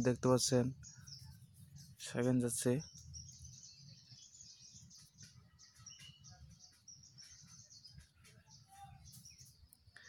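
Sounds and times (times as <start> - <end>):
distant birds chirping: 0.0 - 10.0.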